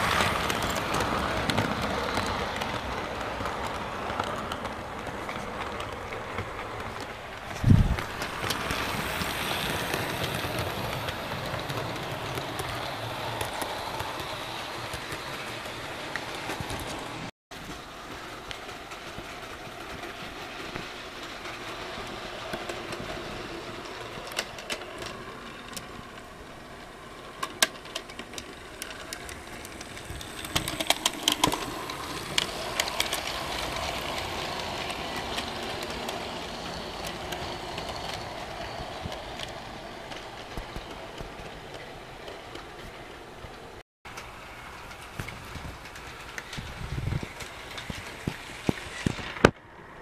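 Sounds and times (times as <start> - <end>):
model locomotive running on track: 0.0 - 50.0
wheels clicking over rail joints: 0.0 - 50.0.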